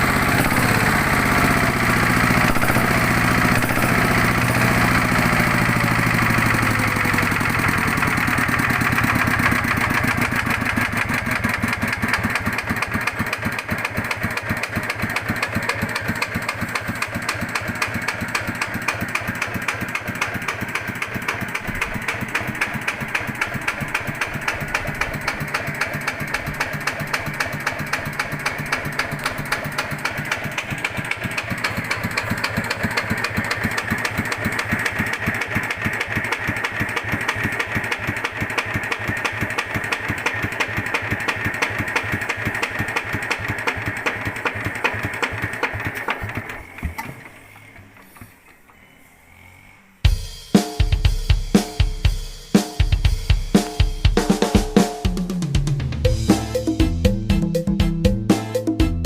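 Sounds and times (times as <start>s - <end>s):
diesel engine idling with knocking: 0.0s - 48.4s.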